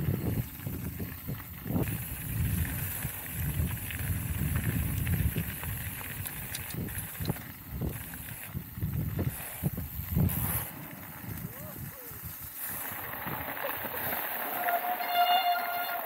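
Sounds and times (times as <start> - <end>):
wind buffeting microphone: 0.0 - 14.3
bike clicks and rattles: 0.0 - 16.0
bike tyre noise: 0.0 - 16.0.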